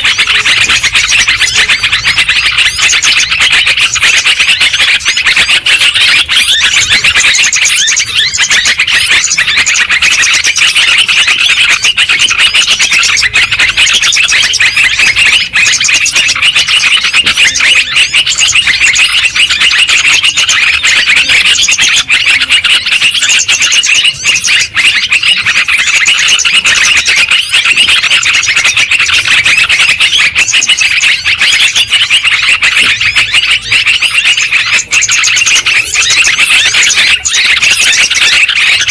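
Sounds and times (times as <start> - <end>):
bulbuls chattering chorus: 0.0 - 38.9.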